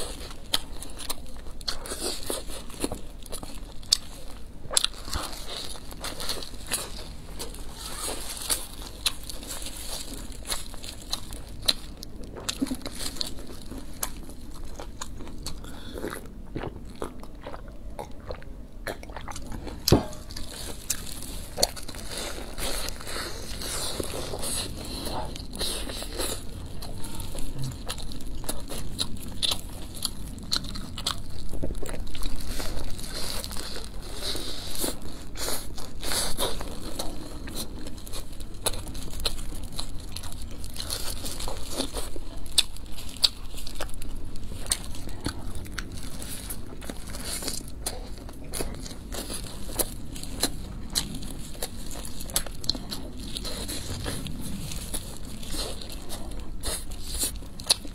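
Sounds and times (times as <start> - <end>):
crunchy chewing of flatbread: 0.0 - 57.9.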